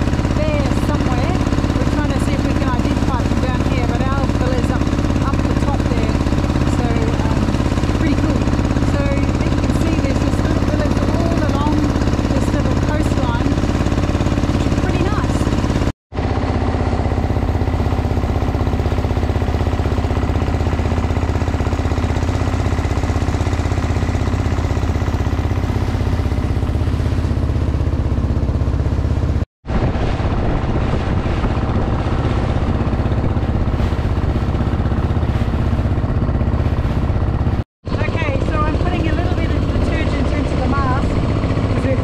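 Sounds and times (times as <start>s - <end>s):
boat engine drone: 0.0s - 42.0s
wind and water rushing: 0.0s - 42.0s.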